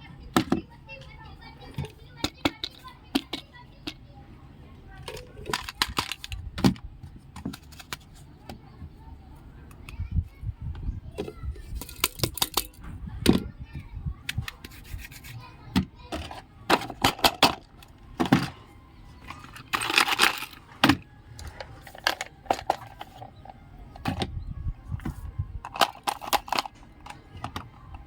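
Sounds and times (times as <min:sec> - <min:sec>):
plastic toys clicking and tapping: 0:00.2 - 0:04.2, 0:04.9 - 0:09.0, 0:09.6 - 0:10.1, 0:10.7 - 0:13.5, 0:14.2 - 0:24.4, 0:25.0 - 0:28.0.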